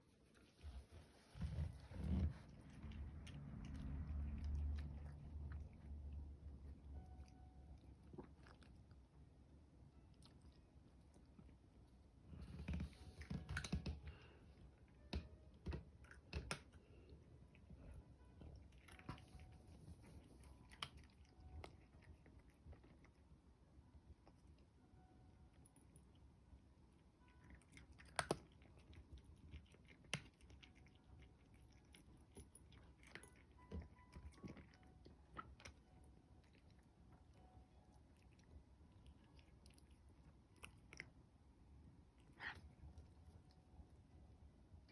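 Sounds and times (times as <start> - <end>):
cat chewing food: 0.0 - 24.9, 25.5 - 44.9.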